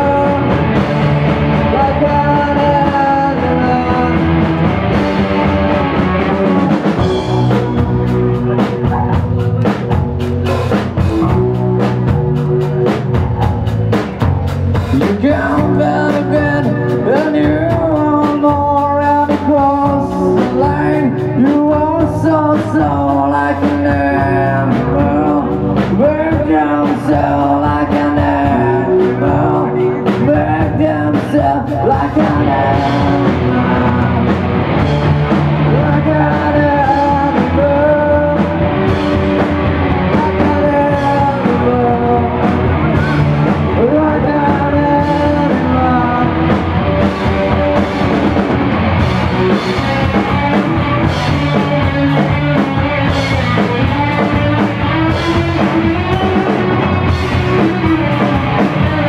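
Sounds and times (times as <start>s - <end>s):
drums beating: 0.0s - 59.0s
person singing: 0.0s - 59.0s
rock band playing: 0.0s - 59.0s.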